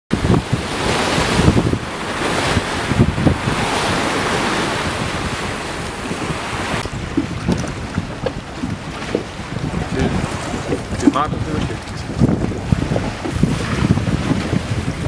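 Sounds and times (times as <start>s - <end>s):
sea rushing: 0.1s - 15.0s
wind buffeting microphone: 0.1s - 15.0s.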